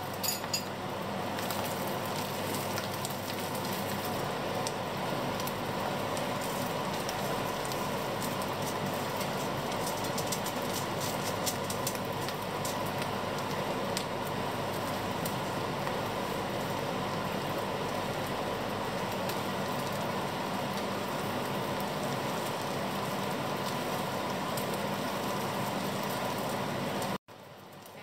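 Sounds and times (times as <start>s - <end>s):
constant hum: 0.0s - 28.0s
food sizzling in a pan: 0.0s - 28.0s.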